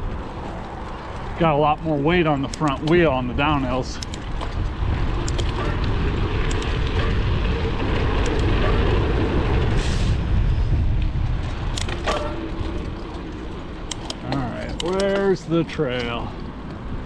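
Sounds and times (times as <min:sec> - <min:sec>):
bike clicks and rattles: 0:00.0 - 0:17.0
tyre and trail noise: 0:00.0 - 0:17.0
wind rumbling on microphone: 0:00.0 - 0:17.0.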